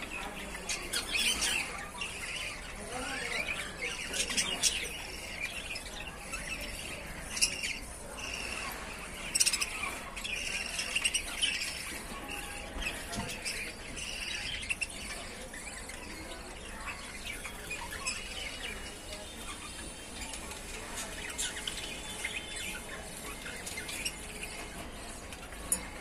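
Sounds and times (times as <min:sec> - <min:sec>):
budgerigars chattering: 0:00.0 - 0:26.0.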